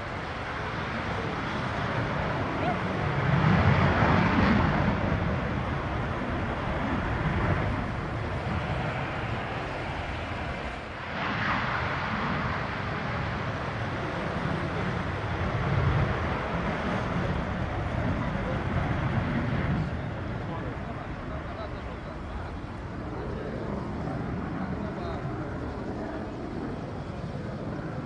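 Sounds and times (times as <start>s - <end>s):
jet engine loud rushing roar: 0.0s - 28.0s.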